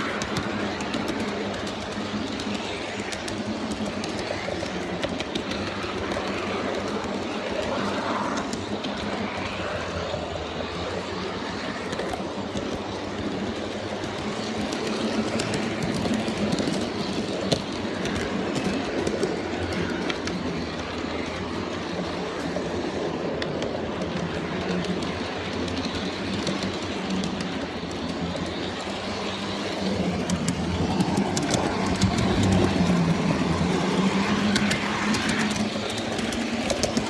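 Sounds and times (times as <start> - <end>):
model train rolling on track: 0.0 - 37.0.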